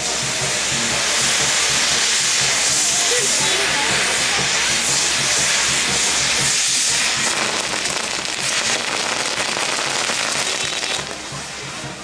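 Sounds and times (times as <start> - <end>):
fireworks hissing and crackling: 0.0 - 12.0.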